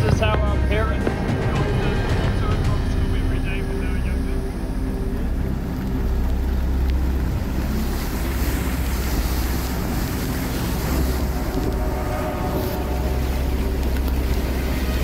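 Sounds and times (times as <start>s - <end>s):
floodwater rushing: 0.0s - 15.0s
heavy rain: 0.0s - 15.0s
low rumble: 0.0s - 15.0s
wind buffeting microphone: 0.0s - 15.0s.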